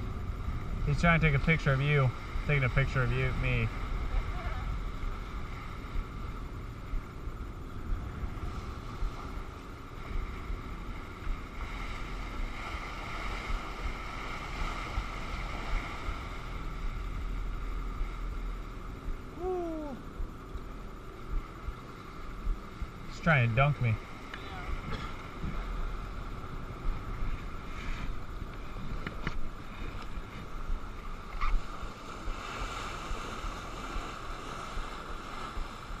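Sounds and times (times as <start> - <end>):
water rushing along a boat: 0.0 - 36.0
wind buffeting microphone: 0.0 - 36.0.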